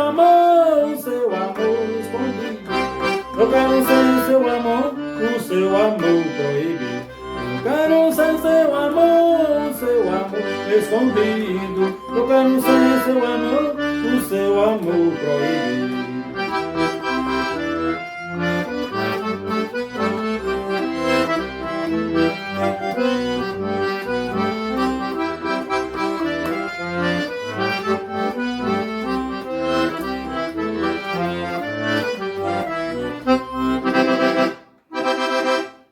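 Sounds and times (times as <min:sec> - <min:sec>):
lively accordion music: 0:00.0 - 0:35.9.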